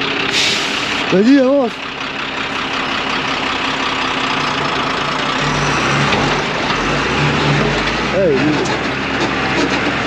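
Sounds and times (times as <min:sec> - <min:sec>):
heavy vehicle engine running: 0:00.0 - 0:10.0.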